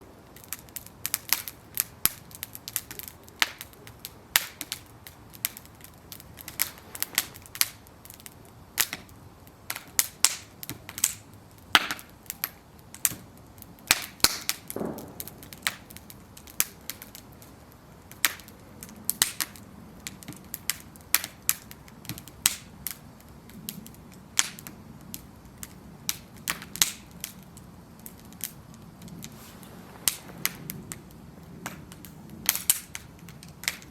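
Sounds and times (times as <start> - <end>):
low rush of flame: 0.0 - 33.9
wood fire crackling and popping: 0.0 - 33.9.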